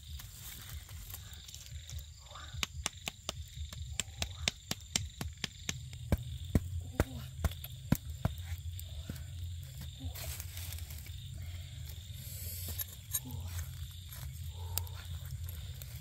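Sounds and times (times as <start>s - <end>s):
embers crackling: 0.0s - 16.0s
sharp pops from fire: 0.0s - 16.0s
steady low hum: 0.0s - 16.0s.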